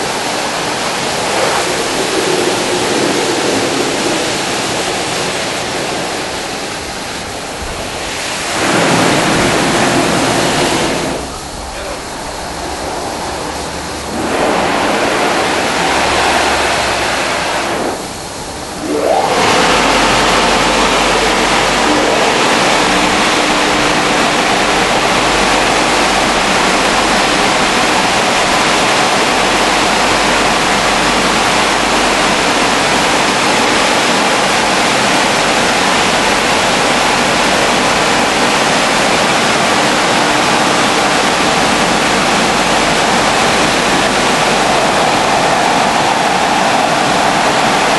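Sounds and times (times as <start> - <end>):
car wash rushing hiss: 0.0 - 47.9.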